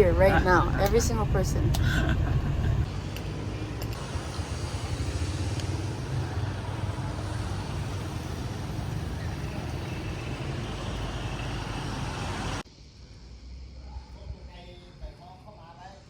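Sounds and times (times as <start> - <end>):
vehicle engine rumble: 0.0 - 14.5
road noise: 0.0 - 15.1.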